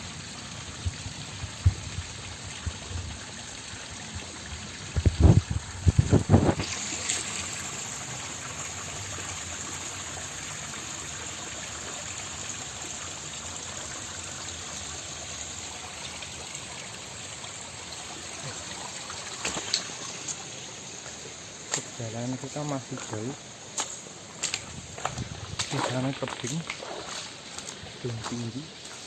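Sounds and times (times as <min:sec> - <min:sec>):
stream running over rocks: 0:00.0 - 0:29.0.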